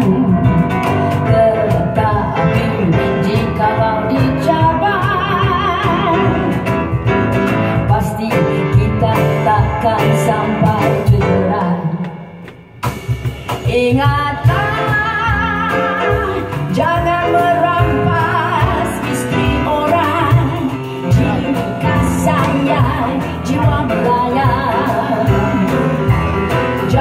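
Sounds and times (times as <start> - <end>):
woman singing with vibrato: 0.0 - 6.8, 7.7 - 12.4, 13.6 - 27.0
piano: 0.0 - 27.0.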